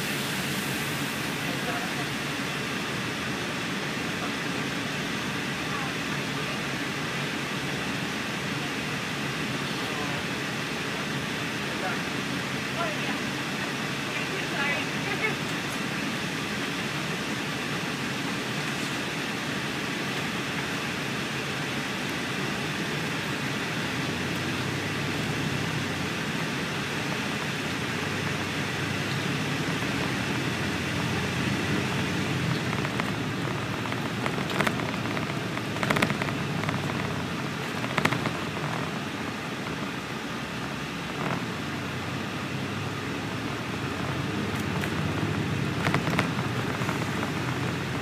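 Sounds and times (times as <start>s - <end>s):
bus cabin hiss of engine and tyres: 0.0s - 48.0s.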